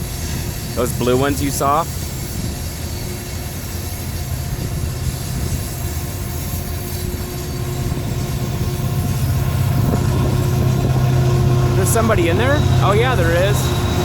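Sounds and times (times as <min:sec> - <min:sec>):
locomotive engine drone: 0:00.0 - 0:14.0
rumble of rolling train cars: 0:00.0 - 0:14.0.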